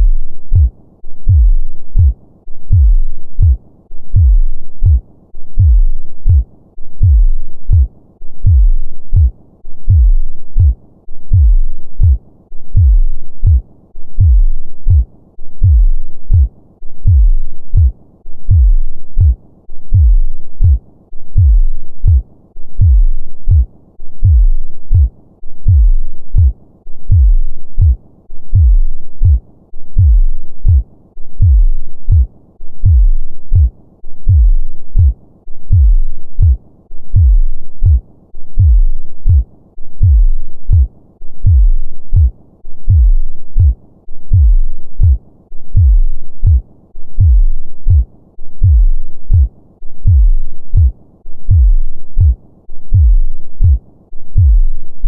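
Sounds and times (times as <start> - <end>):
heartbeat thumps: 0.0 - 13.6, 14.2 - 22.2, 22.8 - 55.0.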